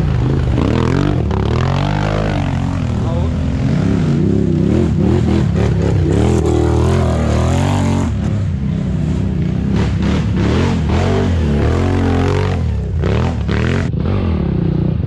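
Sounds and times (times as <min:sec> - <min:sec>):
atv engines revving: 0:00.0 - 0:15.0.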